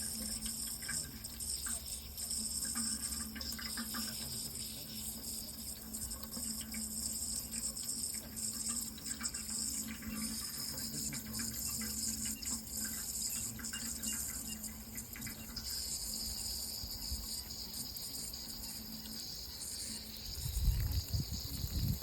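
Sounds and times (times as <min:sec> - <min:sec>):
high-pitched hiss: 0:00.0 - 0:22.0
running water: 0:00.0 - 0:22.0.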